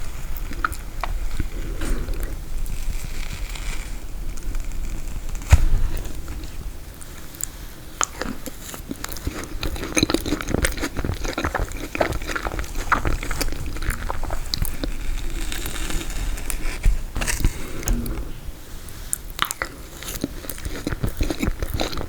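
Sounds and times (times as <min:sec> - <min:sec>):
crunchy chewing of frozen cake: 0:00.0 - 0:22.0.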